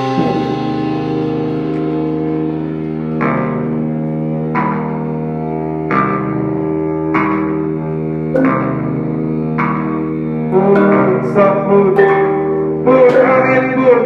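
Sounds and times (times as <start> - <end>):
electric guitar chords ringing: 0.0 - 14.0
live band playing: 0.0 - 14.0.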